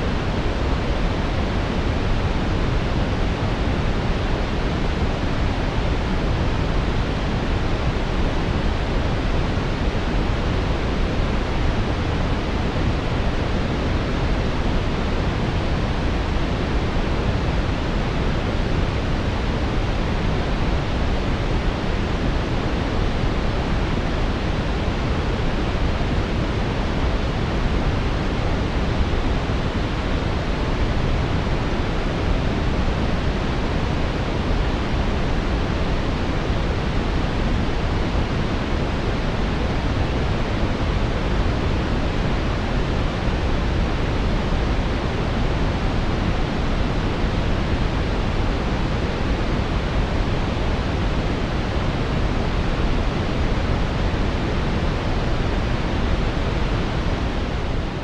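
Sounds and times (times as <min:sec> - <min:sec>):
deep brown noise hiss: 0:00.0 - 0:58.0.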